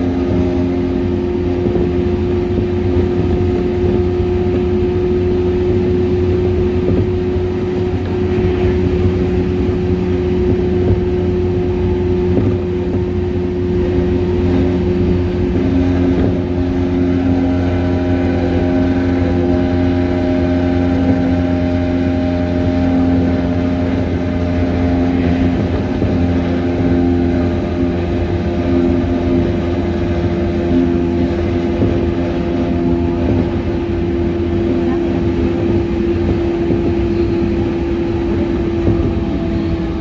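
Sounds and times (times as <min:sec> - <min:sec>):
train motor whine: 0:00.0 - 0:40.0
wheels rumbling on rails: 0:00.0 - 0:40.0.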